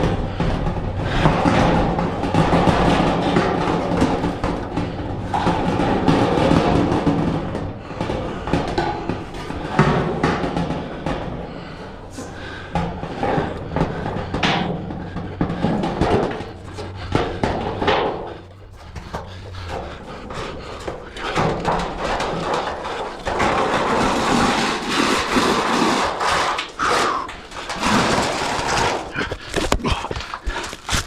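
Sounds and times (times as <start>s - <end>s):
scraping and rustling: 0.0s - 31.0s.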